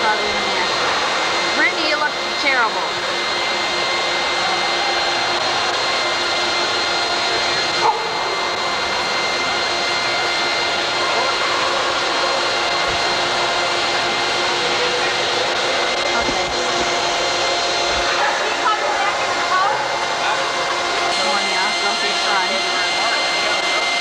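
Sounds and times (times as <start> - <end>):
grooming dryer blowing air: 0.0 - 24.0.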